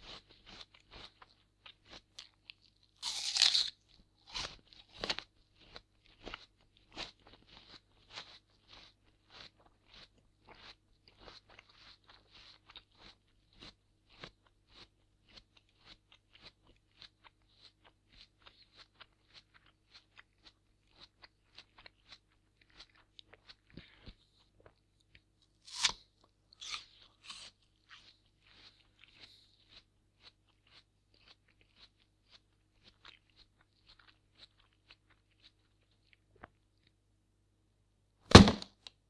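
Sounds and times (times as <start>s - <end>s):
apple crunching while chewed: 0.0s - 36.9s, 38.3s - 39.0s.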